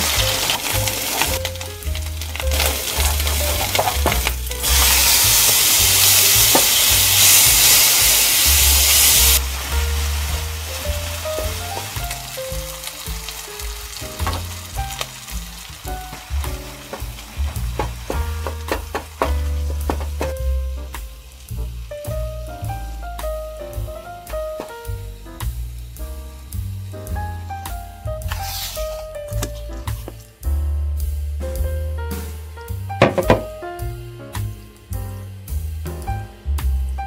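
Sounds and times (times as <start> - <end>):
food frying in oil: 0.0 - 30.2
loud even sizzle: 0.0 - 37.0.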